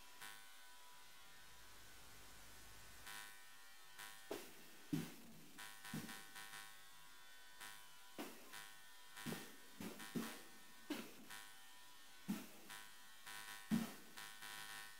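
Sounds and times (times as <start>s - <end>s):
electrical buzz: 0.0s - 14.9s.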